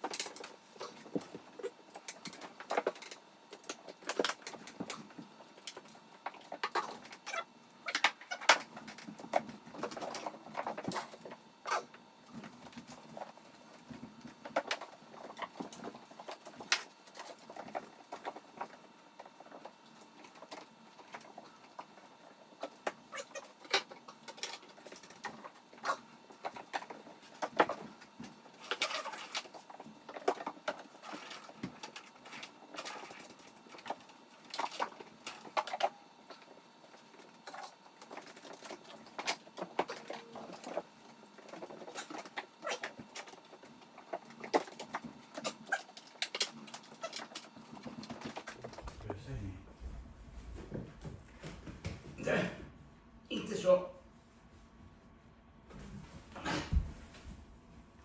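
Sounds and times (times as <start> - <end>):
patter of small paws: 0.0 - 52.2.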